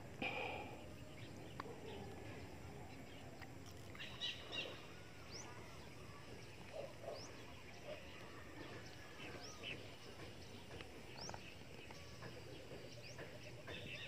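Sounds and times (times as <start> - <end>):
faint outdoor ambience: 0.0 - 14.0
bird chirps: 0.2 - 14.0.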